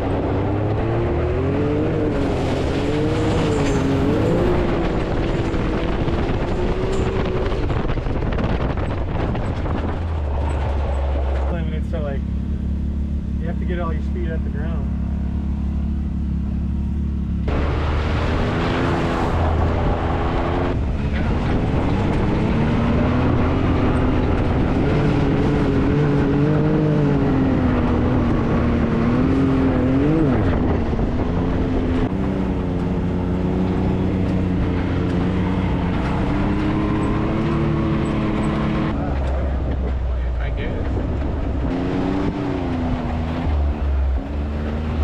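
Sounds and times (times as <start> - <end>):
tyre and wind noise: 0.0 - 12.1, 17.4 - 45.0
vehicle engine running: 0.0 - 45.0.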